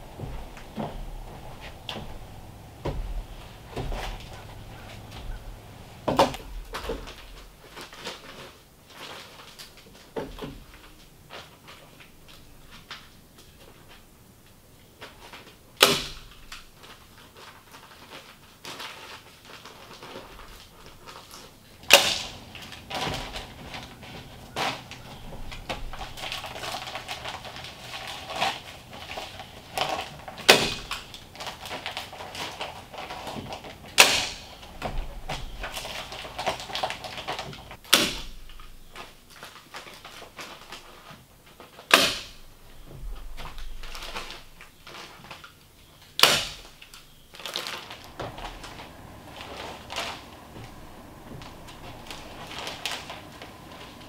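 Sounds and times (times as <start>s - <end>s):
insulation paper rustling: 0.0s - 54.0s.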